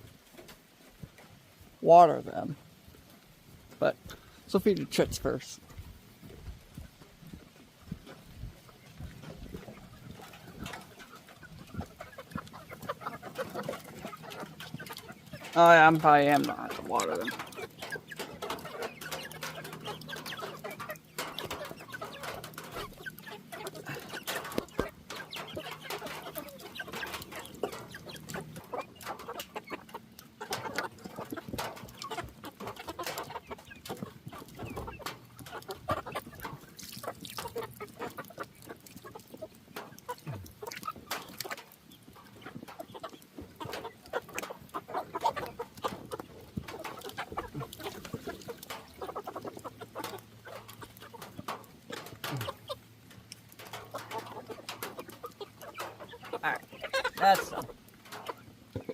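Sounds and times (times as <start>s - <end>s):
chickens clucking: 0.0s - 58.9s.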